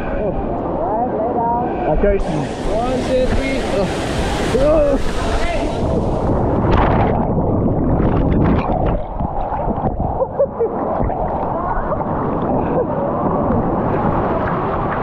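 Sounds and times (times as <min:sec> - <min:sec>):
underwater churning water: 0:02.0 - 0:15.0.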